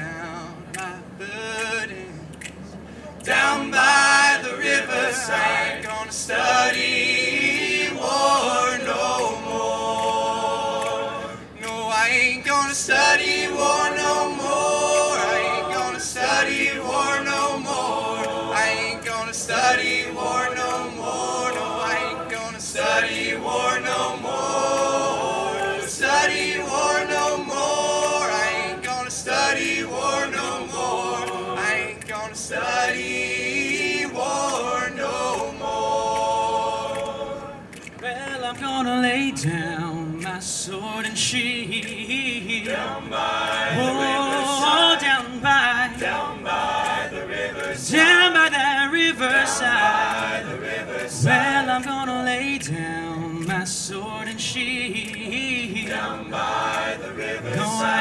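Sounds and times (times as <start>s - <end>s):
lead singer with vibrato: 0.0s - 58.0s
male a cappella group singing: 0.0s - 58.0s.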